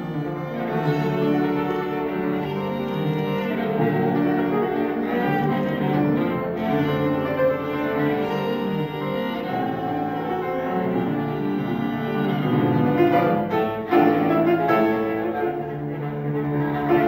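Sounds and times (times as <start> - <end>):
bowed string instrument: 0.0 - 17.0
grand piano accompaniment: 0.0 - 17.0.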